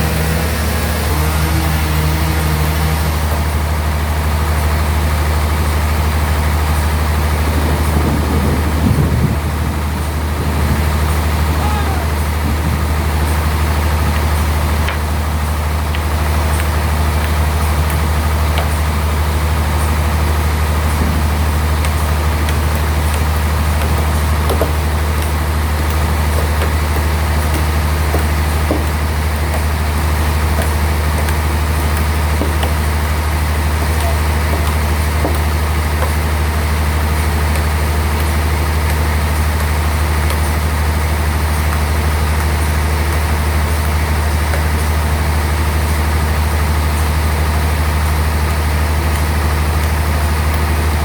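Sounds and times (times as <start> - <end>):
bandsaw machinery humming: 0.0 - 51.0.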